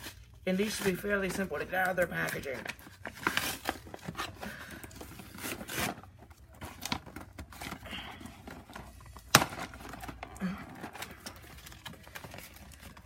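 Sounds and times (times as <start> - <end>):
toy packaging being handled: 0.0 - 13.0.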